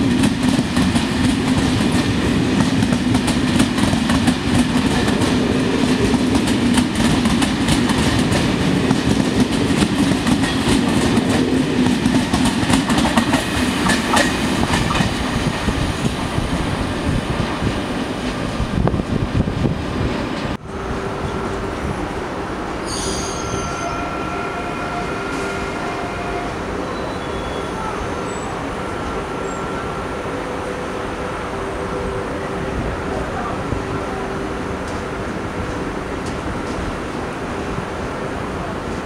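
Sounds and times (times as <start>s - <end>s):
train coaches rolling past: 0.0s - 39.0s.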